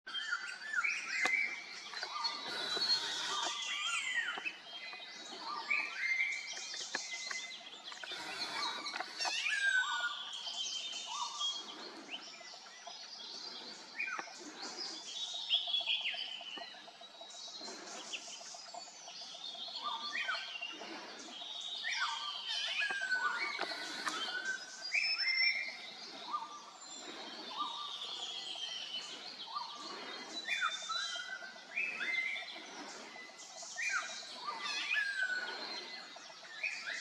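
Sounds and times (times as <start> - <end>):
birds chirping and whistling: 0.1 - 37.0.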